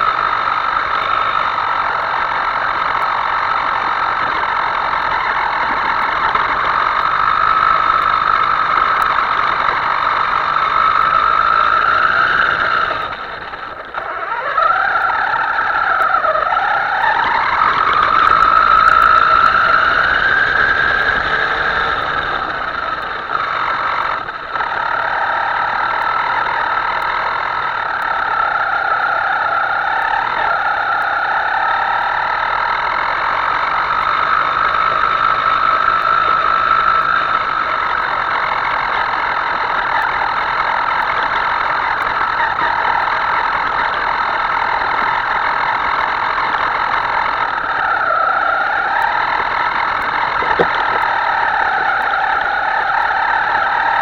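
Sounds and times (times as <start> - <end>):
small motor whining: 0.0 - 54.0.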